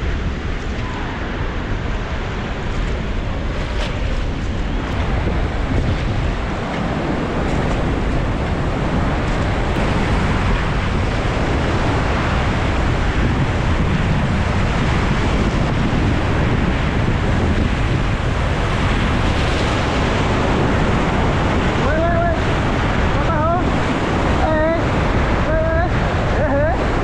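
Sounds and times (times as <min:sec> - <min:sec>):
river rapid rushing: 0:00.0 - 0:27.0
wind buffeting microphone: 0:00.0 - 0:27.0.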